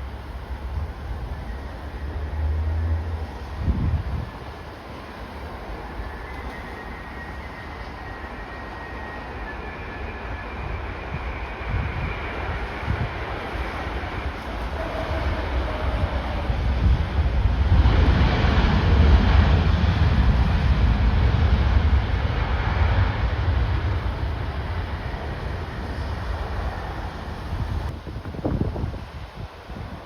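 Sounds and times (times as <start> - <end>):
wind buffeting microphone: 0.0 - 8.4, 10.1 - 30.0
jet airliner engine rumble: 0.0 - 30.0.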